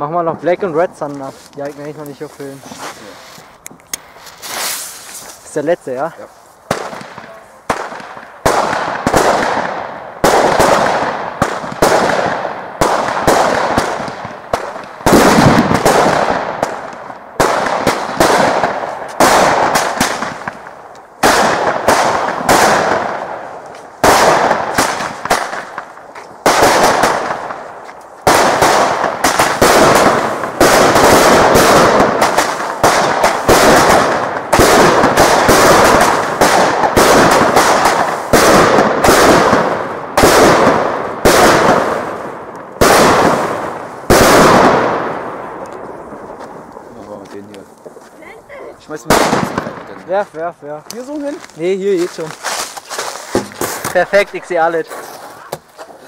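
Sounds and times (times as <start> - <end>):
fireworks banging and crackling: 0.0 - 56.0.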